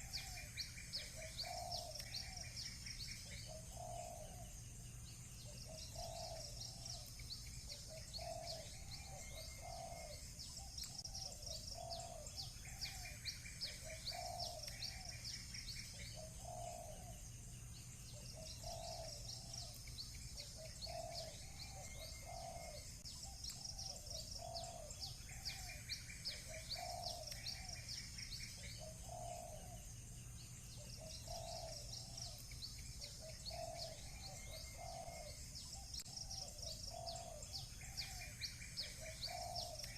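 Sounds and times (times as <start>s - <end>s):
dove cooing: 0.0s - 2.6s, 3.2s - 4.5s, 5.4s - 17.2s, 18.1s - 19.8s, 20.4s - 29.8s, 30.8s - 32.4s, 33.0s - 39.9s
bird trill: 0.0s - 39.9s
small birds chirping: 0.0s - 39.9s.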